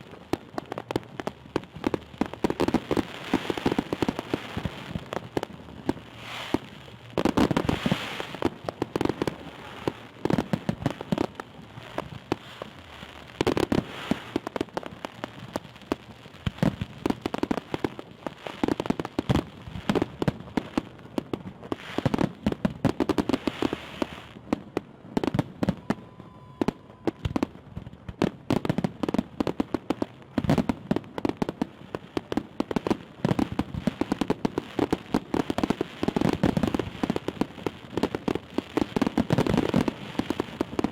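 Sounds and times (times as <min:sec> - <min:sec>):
fireworks bangs: 0:00.0 - 0:40.9
fireworks crackling and popping: 0:00.0 - 0:40.9.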